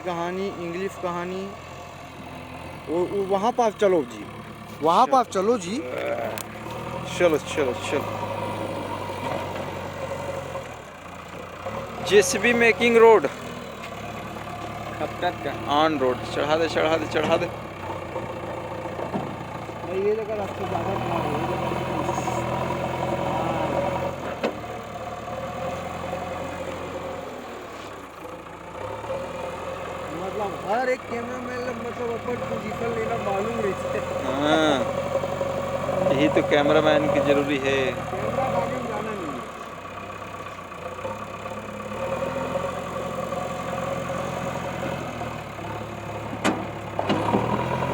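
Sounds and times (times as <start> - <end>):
backhoe engine running: 0.0 - 47.9.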